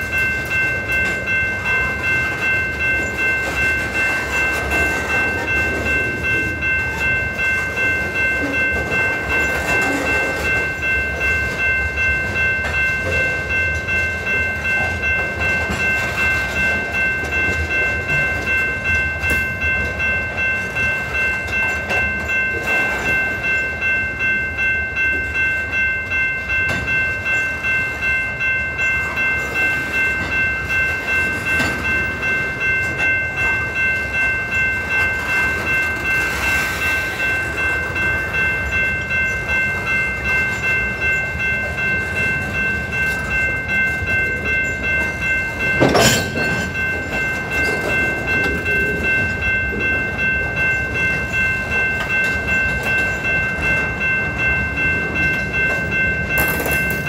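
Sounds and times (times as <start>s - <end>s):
train wheels clickety-clack: 0.0s - 23.9s, 25.1s - 28.0s, 28.8s - 57.0s
high ringing tone: 0.0s - 57.0s.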